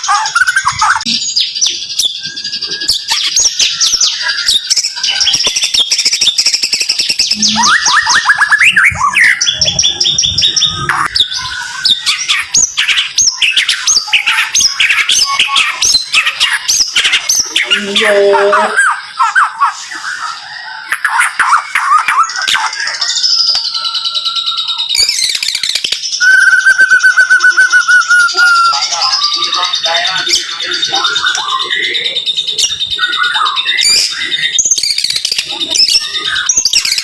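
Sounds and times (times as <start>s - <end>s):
bird singing rapid whistles: 0.0s - 37.0s.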